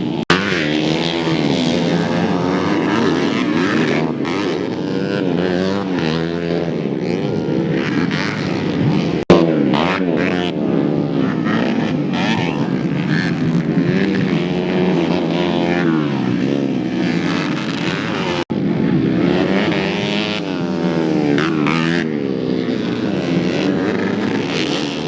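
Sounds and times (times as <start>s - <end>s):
small motorbike engine revving: 0.0s - 25.0s.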